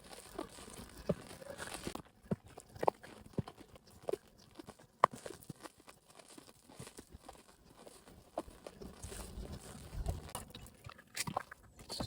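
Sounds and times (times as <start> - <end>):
pony hooves walking: 0.0 - 12.0.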